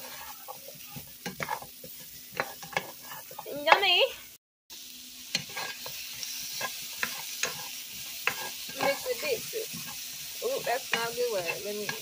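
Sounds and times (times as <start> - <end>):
utensil scraping against pan: 0.0 - 3.8, 5.3 - 12.0
vegetables sizzling in a frying pan: 0.0 - 12.0.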